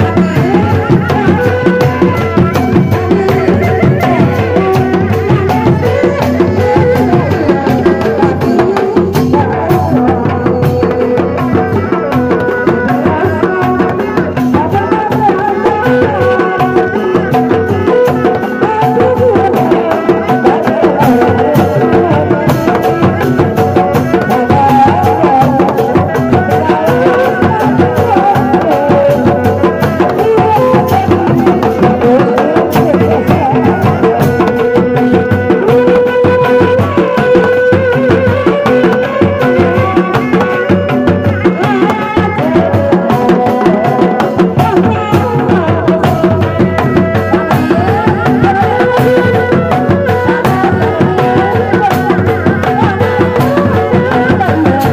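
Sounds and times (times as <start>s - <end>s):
hand drums interlocking rhythm: 0.0s - 54.9s.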